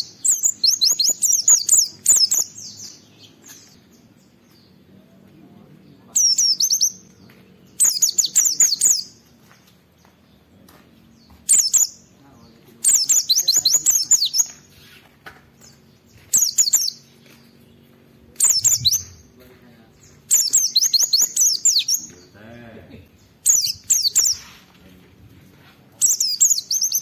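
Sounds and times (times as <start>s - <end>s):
bird singing chattering notes: 0.0s - 4.9s, 5.6s - 24.7s, 26.0s - 27.0s.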